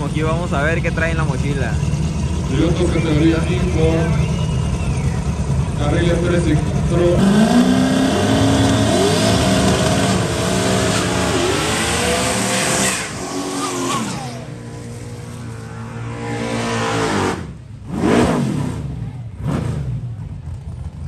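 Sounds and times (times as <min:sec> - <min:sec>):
drag car engine revving: 0:00.1 - 0:21.0.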